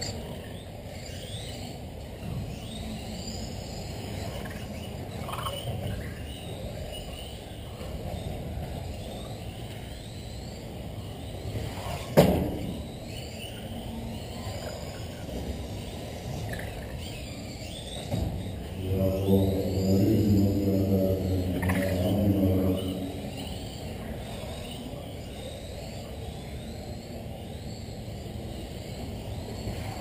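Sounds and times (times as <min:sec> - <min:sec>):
hall background noise: 0:00.0 - 0:30.0.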